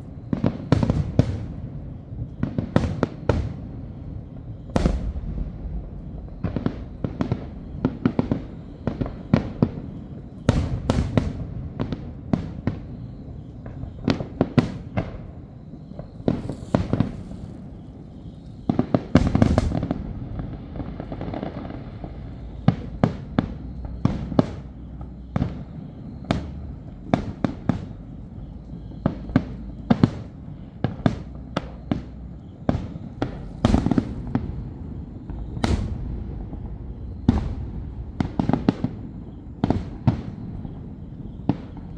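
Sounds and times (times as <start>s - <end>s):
crackling firework burst: 0.0s - 41.9s
fireworks exploding with bangs: 0.0s - 41.9s.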